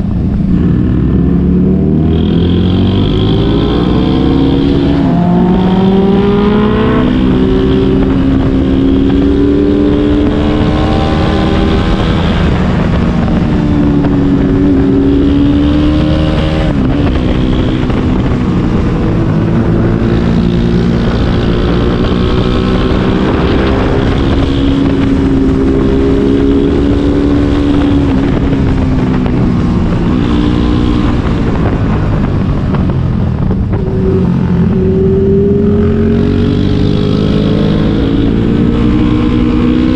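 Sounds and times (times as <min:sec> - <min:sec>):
motorcycle engine revving: 0:00.0 - 0:39.9
wind rushing across microphone: 0:00.0 - 0:39.9.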